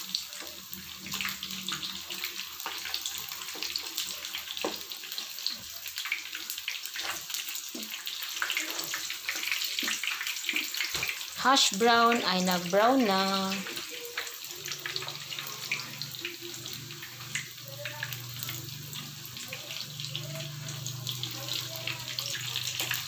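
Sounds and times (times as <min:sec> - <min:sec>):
hash browns sizzling in oil: 0:00.0 - 0:23.0.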